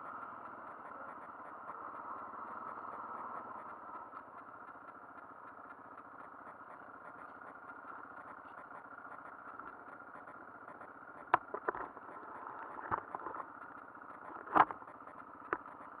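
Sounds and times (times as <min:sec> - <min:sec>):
quad engine idling: 0:00.0 - 0:16.0.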